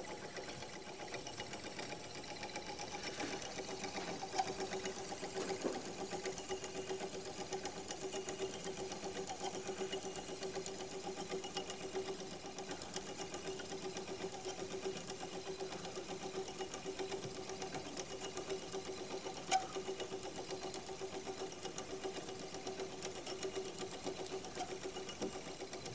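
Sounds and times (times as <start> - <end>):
clockwork gears whirring and ticking: 0.0 - 25.9.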